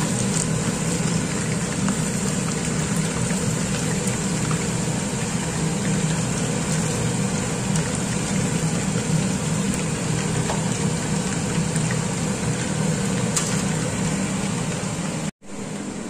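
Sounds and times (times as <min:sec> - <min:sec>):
chicken sizzling in hot oil: 0:00.0 - 0:15.3.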